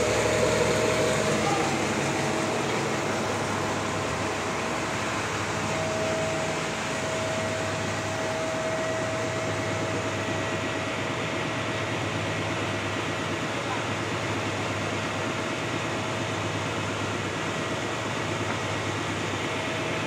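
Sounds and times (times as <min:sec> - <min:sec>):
band sawmill running: 0:00.0 - 0:20.0
thin steady blade whine: 0:00.0 - 0:20.0.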